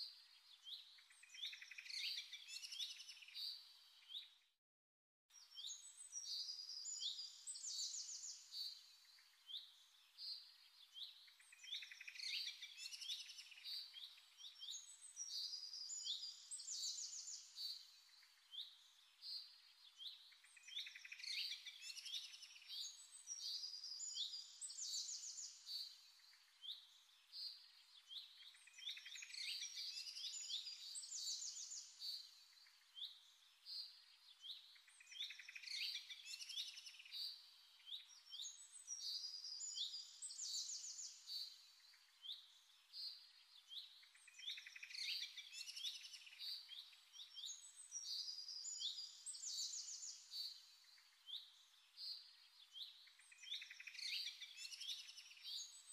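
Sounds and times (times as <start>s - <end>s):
birds chirping and trilling: 0.2s - 4.4s, 5.4s - 55.9s.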